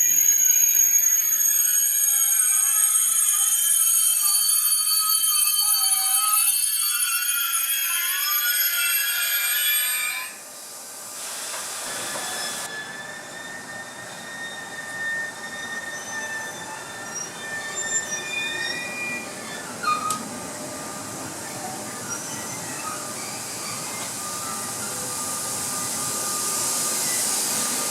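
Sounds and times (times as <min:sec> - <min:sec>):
train wheels squealing: 0:00.0 - 0:10.4, 0:11.6 - 0:20.2, 0:20.8 - 0:27.9.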